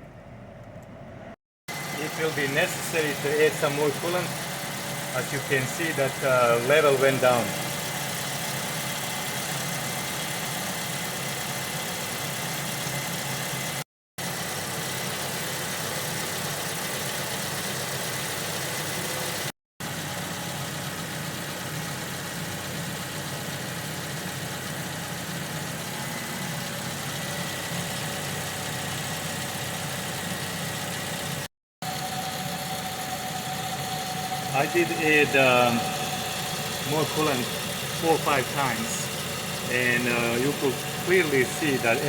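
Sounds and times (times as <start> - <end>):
car engine idling: 1.7 - 13.7, 14.3 - 42.0.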